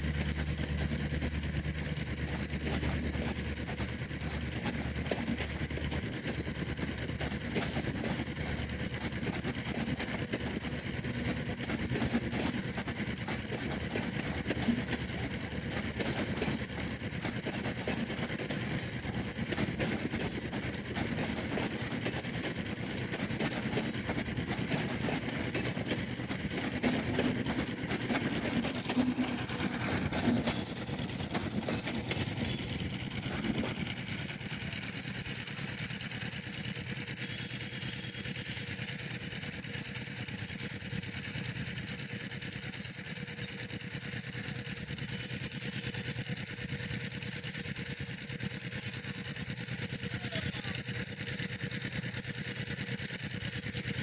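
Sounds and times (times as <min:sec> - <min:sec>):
auto-rickshaw engines idling: 0:00.0 - 0:54.0
train wheels on rails: 0:00.0 - 0:54.0.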